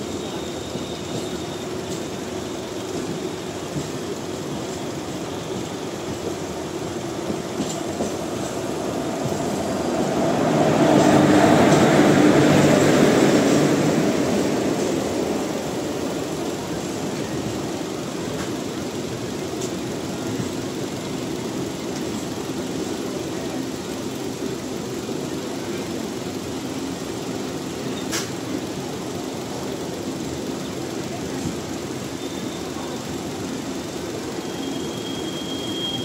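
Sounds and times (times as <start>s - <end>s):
express train passing: 0.0s - 36.0s
train running noise: 0.0s - 36.0s.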